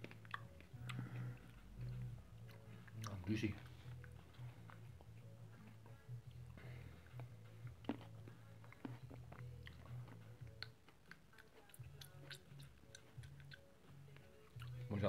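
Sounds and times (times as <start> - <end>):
chewing with wet clicks: 0.0 - 15.0.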